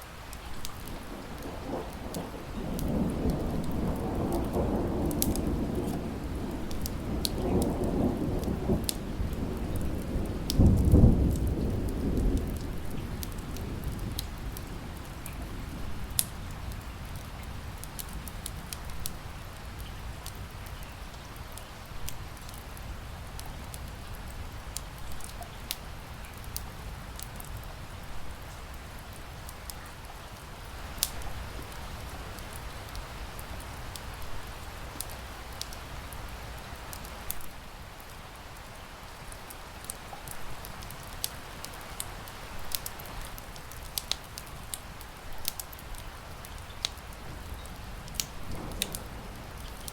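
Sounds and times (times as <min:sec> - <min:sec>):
rain hissing: 0:00.0 - 0:49.9
wood fire crackling: 0:00.0 - 0:49.9.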